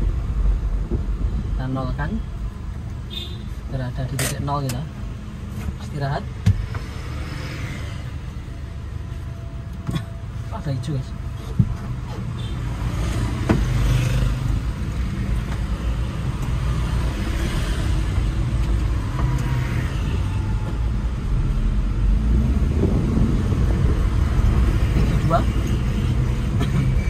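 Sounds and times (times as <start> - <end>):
road and traffic noise: 0.0 - 27.0.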